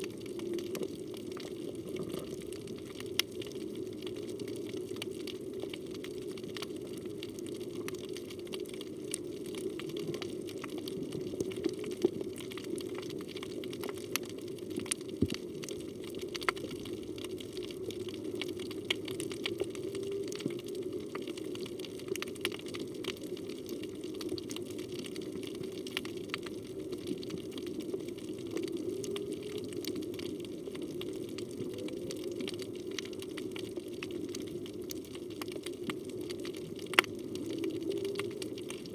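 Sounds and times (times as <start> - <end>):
sharp clicks and crackles: 0.0 - 38.9
underwater rushing water: 0.0 - 38.9.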